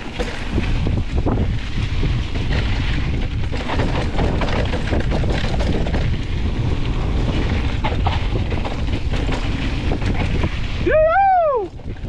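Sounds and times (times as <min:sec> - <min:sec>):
bike rattling and knocking: 0:00.0 - 0:12.0
tyres rolling over dirt and rock: 0:00.0 - 0:12.0
wind buffeting microphone: 0:00.0 - 0:12.0.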